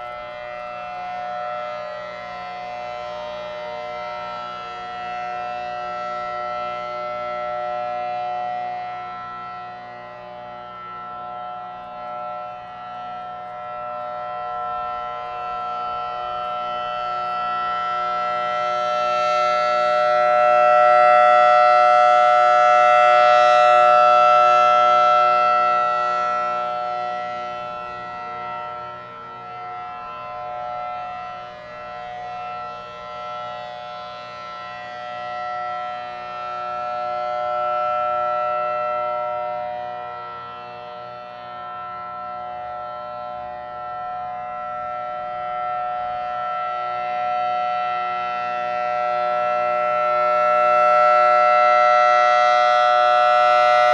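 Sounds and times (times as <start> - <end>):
outdoor warning siren chord: 0.0 - 53.9.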